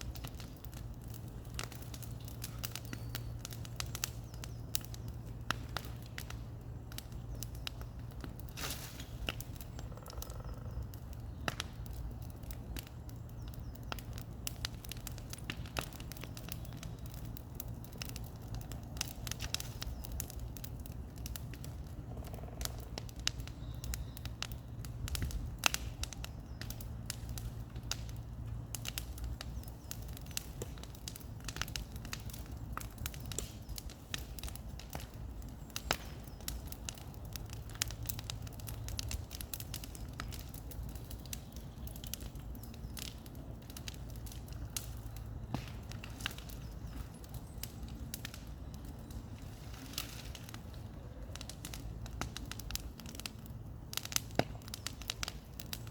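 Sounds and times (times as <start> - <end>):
bonfire crackling and popping: 0.0 - 55.9.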